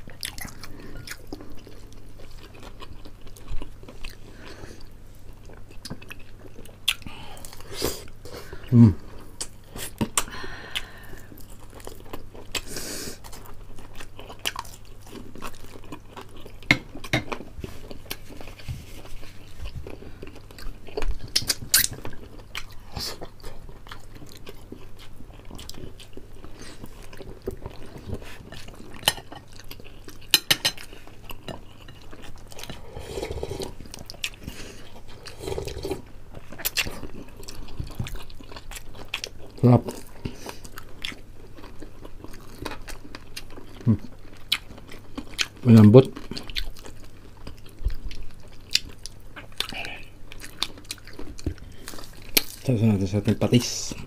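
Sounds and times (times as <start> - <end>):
people chewing and lip smacking: 0.0 - 54.0.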